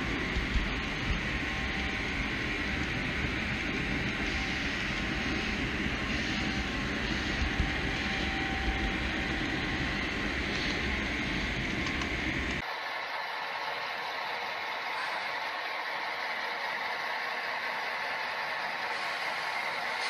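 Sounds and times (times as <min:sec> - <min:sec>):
model train rolling rumble and hiss: 0:00.0 - 0:12.6, 0:14.0 - 0:20.0.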